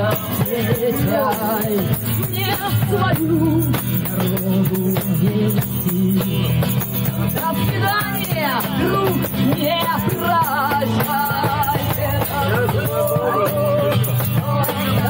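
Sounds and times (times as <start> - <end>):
acoustic guitar strumming: 0.0 - 15.0
tambourine jingling: 0.0 - 15.0
voices singing: 0.0 - 15.0.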